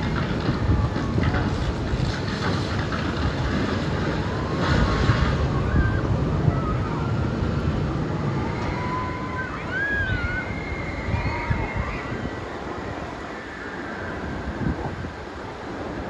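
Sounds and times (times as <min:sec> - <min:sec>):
water rushing and splashing: 0:00.0 - 0:16.0
wind buffeting microphone: 0:00.0 - 0:16.0.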